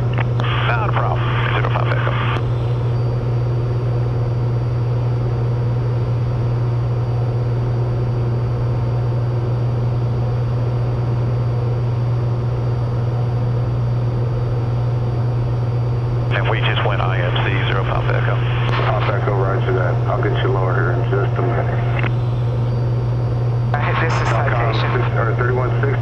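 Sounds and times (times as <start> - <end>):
aircraft engine and propeller drone: 0.0 - 26.0.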